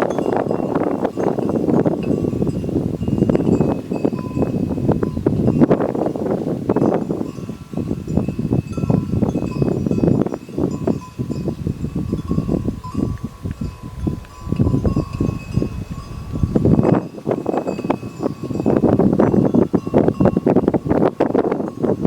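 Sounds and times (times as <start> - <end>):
animal bells ringing: 0.0 - 22.0
dense low rustling: 0.0 - 22.0.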